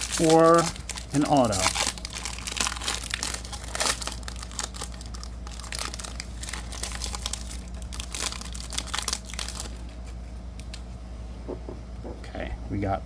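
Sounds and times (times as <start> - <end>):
plastic wrapper crinkling and tearing: 0.0 - 10.8.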